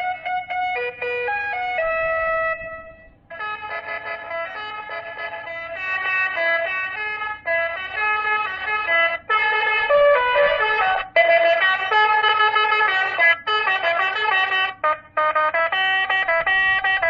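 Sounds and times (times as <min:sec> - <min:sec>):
horn playing stepping melody: 0:00.0 - 0:17.0.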